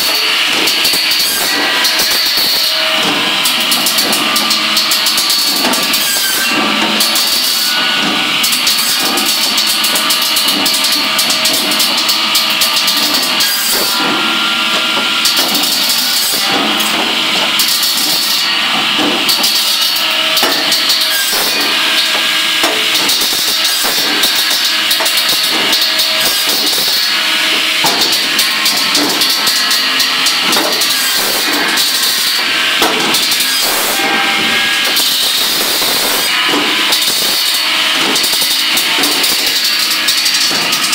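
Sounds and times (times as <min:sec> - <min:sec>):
firewood saw running: 0:00.0 - 0:40.9
wood pieces clattering down chute: 0:00.0 - 0:40.9.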